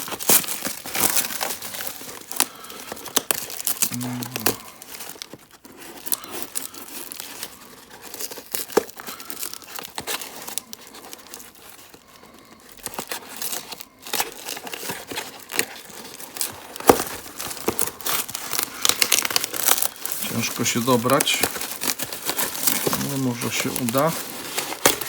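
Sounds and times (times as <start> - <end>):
packaging tearing and crinkling: 0.0 - 25.0.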